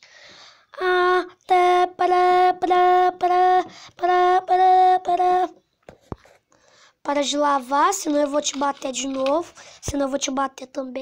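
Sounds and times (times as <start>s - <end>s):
child chanting on one pitch: 0.6s - 5.6s, 7.0s - 11.0s.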